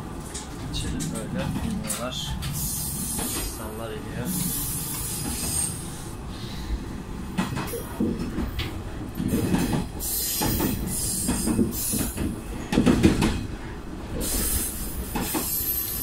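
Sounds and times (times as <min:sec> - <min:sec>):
railcar engine running: 0:00.0 - 0:16.0
wheels rumbling on rails: 0:00.0 - 0:16.0.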